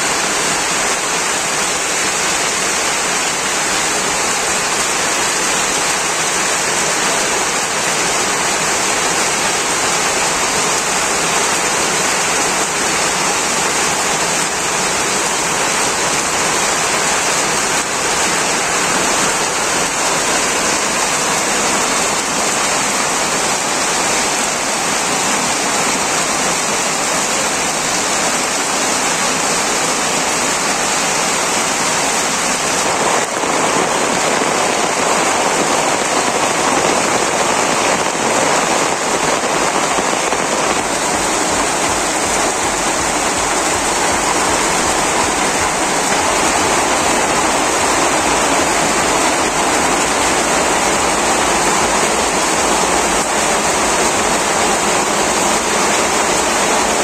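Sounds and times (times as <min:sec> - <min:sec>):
heavy rain on tin roofs: 0:00.0 - 0:57.0.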